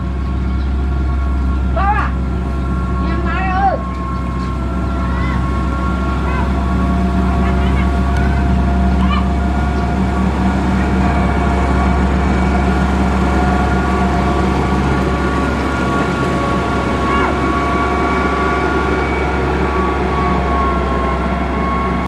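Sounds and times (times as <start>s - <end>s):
diesel engine rumbling: 0.0s - 22.0s
high-pitched whine: 0.0s - 22.0s.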